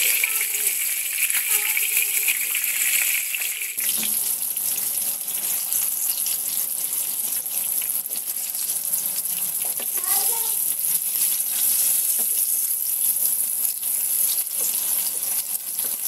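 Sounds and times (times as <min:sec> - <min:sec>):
vegetable slices sizzling in oil: 0:00.0 - 0:16.0.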